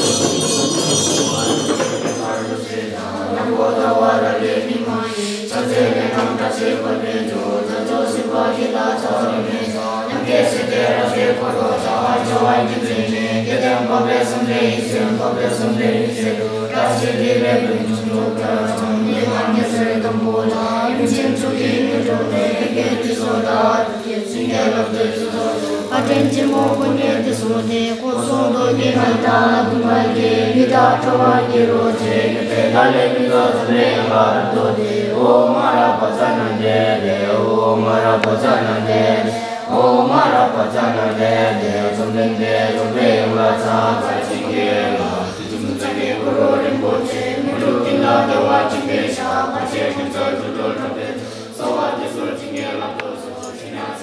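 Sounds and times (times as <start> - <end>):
group chanting prayers: 0.0 - 54.0.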